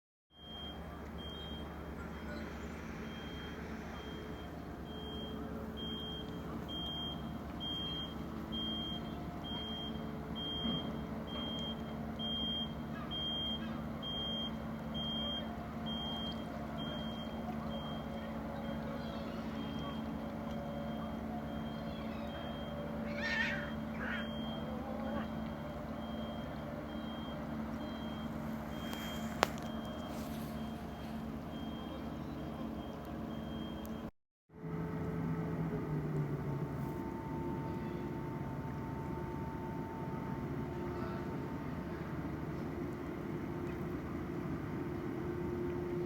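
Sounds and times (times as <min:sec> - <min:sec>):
vehicle reversing alarm beeping: 0:00.3 - 0:34.1, 0:35.3 - 0:42.4
engine hum: 0:00.3 - 0:46.0.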